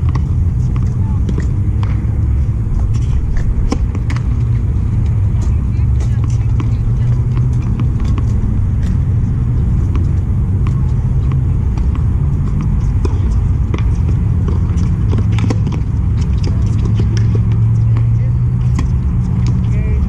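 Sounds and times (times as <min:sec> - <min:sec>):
loud low rumble: 0:00.0 - 0:20.0
tennis balls struck by racquets: 0:00.0 - 0:20.0.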